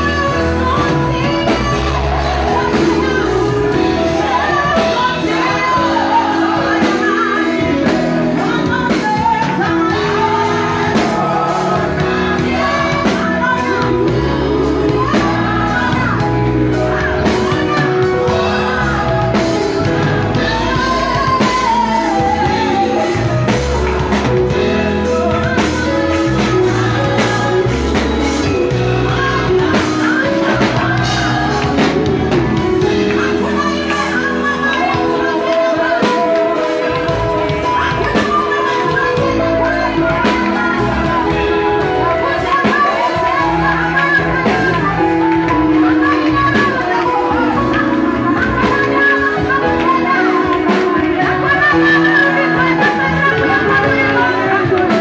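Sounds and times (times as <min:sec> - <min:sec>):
band playing: 0:00.0 - 0:55.0
drum kit beat: 0:00.0 - 0:55.0
singers singing gospel: 0:00.0 - 0:55.0.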